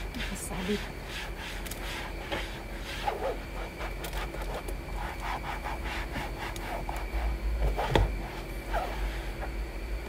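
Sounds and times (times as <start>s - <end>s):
cloth wiping door panel: 0.0s - 9.5s.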